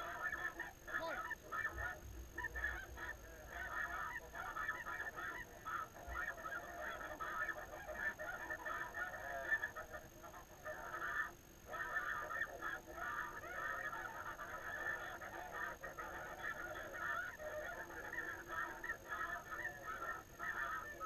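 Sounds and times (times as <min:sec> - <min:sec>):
geese calling: 0:00.0 - 0:21.0.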